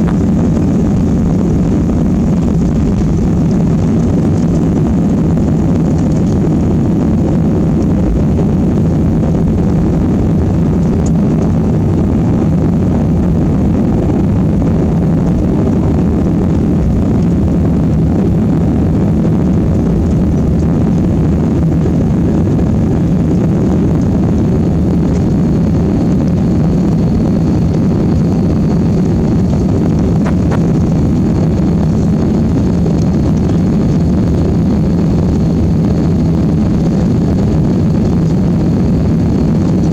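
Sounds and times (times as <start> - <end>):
faint high whine: 0.0 - 39.9
jet engines rumbling: 0.0 - 39.9.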